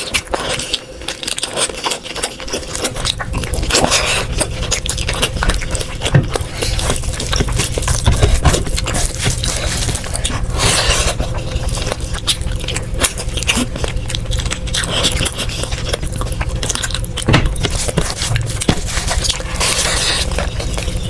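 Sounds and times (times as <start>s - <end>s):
chewing with wet mouth clicks: 0.0s - 21.0s
faint steady hum: 0.0s - 21.0s
scraping: 1.4s - 21.0s.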